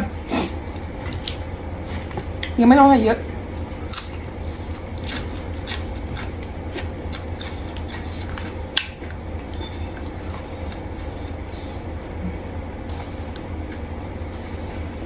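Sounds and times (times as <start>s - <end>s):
steady low hum: 0.0s - 15.0s
eating crunches and clicks: 0.5s - 2.6s, 3.5s - 15.0s.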